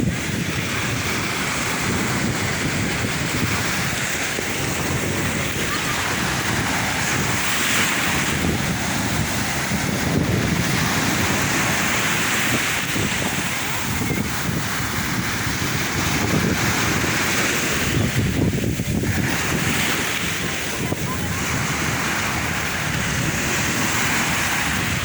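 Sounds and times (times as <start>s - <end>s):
sea waves washing onto shore: 0.0s - 25.0s
wind buffeting the microphone: 0.0s - 25.0s.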